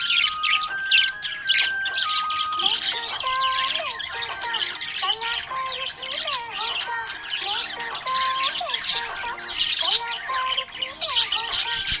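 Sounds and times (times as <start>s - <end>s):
budgies chirping and warbling: 0.0s - 12.0s.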